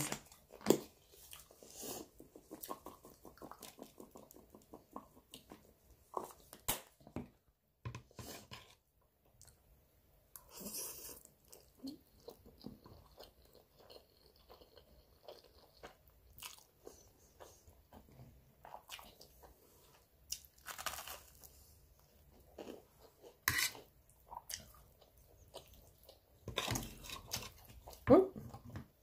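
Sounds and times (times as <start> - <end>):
person chewing food: 0.0 - 6.6, 10.4 - 28.6.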